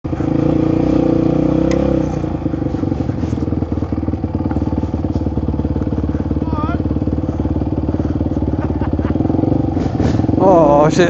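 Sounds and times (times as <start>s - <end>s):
dirt bike engine chugging: 0.0s - 11.0s.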